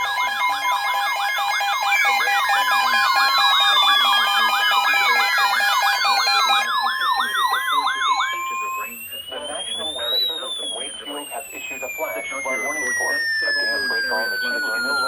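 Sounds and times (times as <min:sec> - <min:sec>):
electronic siren yelp: 0:00.0 - 0:15.0
falling siren wails: 0:00.0 - 0:15.0
steady alarm tones: 0:00.0 - 0:15.0.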